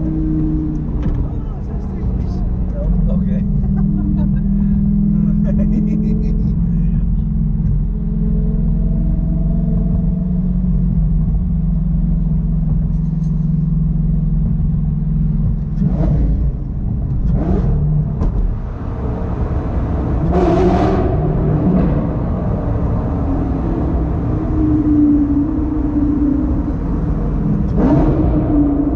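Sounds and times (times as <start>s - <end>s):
sports car engine revving: 0.0s - 28.9s.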